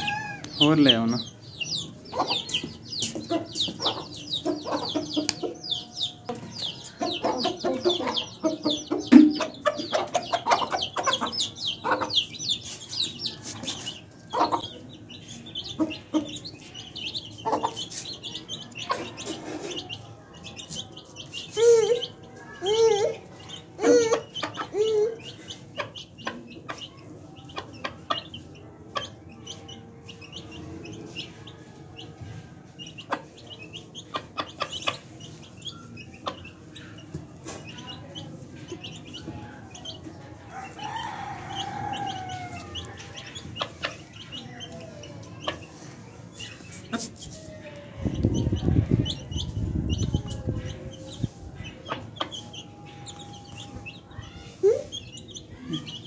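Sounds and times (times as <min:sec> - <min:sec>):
hen clucking: 0:00.0 - 0:31.3, 0:32.8 - 0:56.0
beaks pecking on concrete: 0:00.0 - 0:56.0
chicks peeping: 0:00.0 - 0:56.0.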